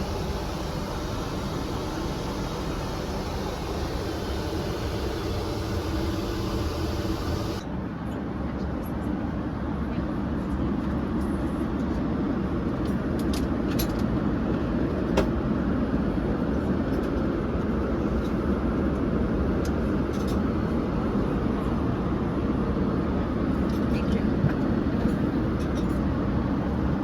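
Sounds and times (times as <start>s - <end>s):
airliner cabin rumble: 0.0s - 7.6s, 10.6s - 27.0s.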